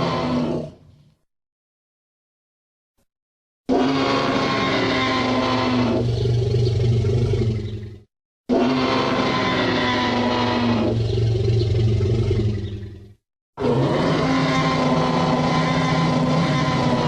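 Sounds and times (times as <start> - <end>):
dinosaur roar: 0.0 - 1.2, 3.7 - 17.0.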